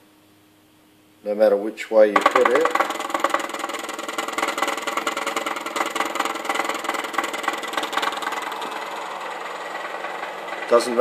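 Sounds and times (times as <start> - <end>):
stepper motor buzzing rattle: 2.2 - 11.0.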